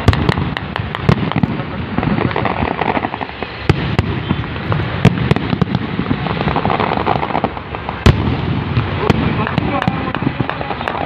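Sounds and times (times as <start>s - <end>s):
firework shells bursting: 0.0s - 11.0s
fireworks crackle: 0.0s - 11.0s
sharp firework bangs: 0.0s - 11.0s.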